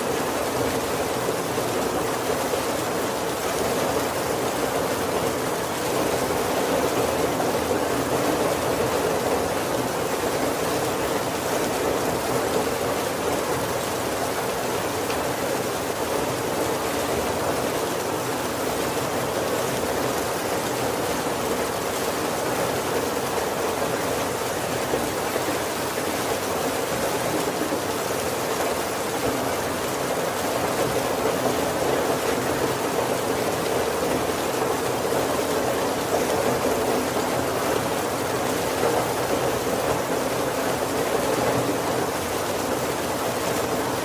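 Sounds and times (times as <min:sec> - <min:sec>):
heavy rain on a wooden roof: 0:00.0 - 0:44.0.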